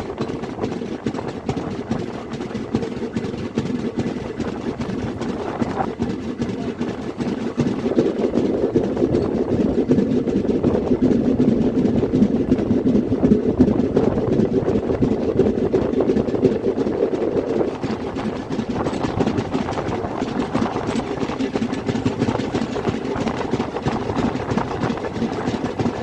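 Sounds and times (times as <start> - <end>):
train wheels rattling on rail: 0.0 - 26.0.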